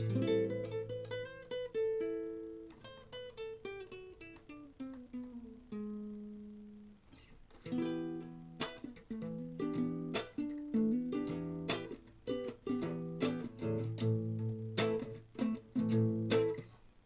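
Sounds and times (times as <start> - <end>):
picked acoustic guitar notes: 0.0 - 16.8.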